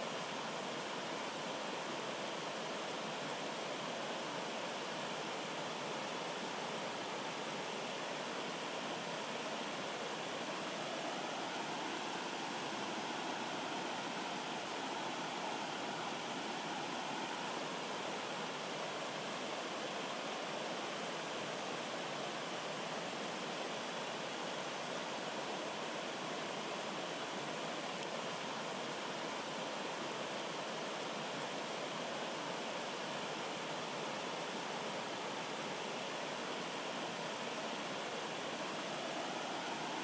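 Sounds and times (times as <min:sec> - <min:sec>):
stream flowing over rocks: 0:00.0 - 0:40.0.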